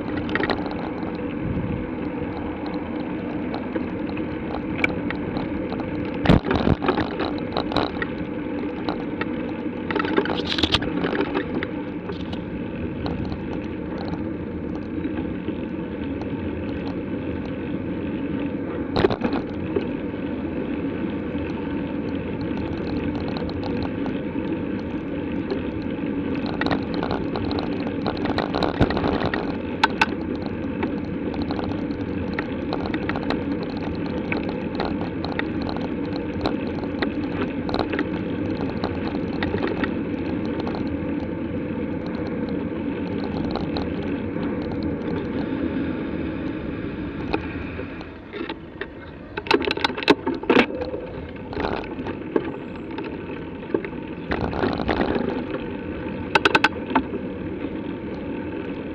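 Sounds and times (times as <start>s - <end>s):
bicycle tyres rumbling: 0.0s - 58.9s
wind: 0.0s - 58.9s.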